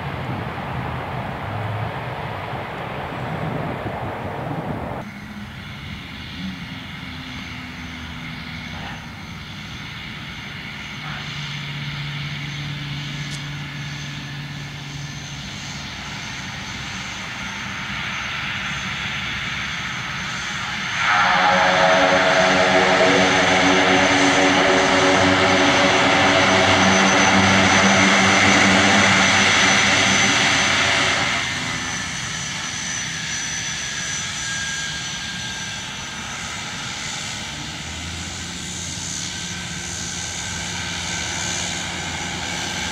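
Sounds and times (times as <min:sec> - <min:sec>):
high turbine whine: 0:00.0 - 0:42.9
propeller drone: 0:00.0 - 0:42.9.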